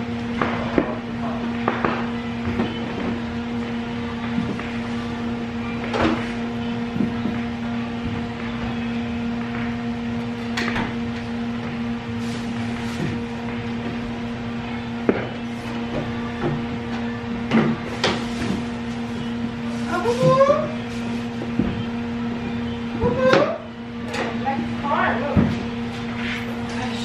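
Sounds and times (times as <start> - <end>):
steady electric hum: 0.0 - 27.0.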